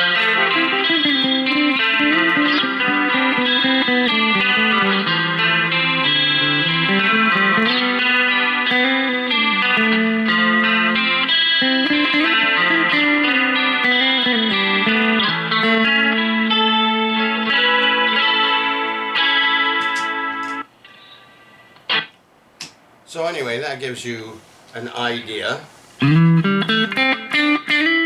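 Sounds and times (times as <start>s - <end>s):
electric guitar playing: 0.0s - 22.2s, 26.0s - 28.0s.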